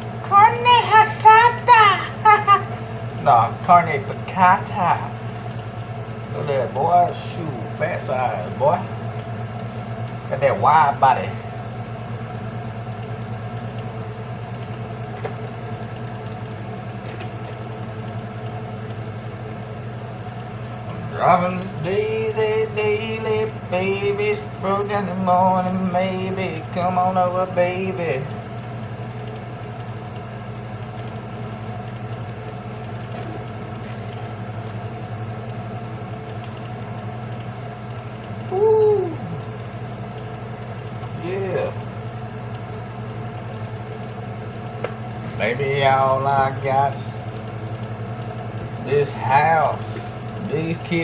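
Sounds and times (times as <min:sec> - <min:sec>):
machine hum: 0:00.0 - 0:51.0.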